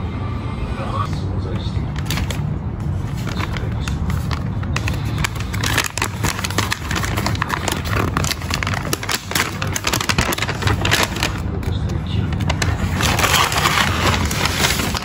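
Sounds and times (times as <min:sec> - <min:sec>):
steady low hum: 0:00.0 - 0:15.0
paper bag rustling and crinkling: 0:01.9 - 0:15.0.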